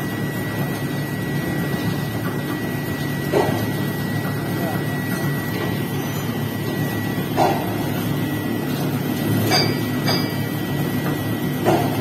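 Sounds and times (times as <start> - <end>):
machinery drone with high whine: 0.0 - 12.0.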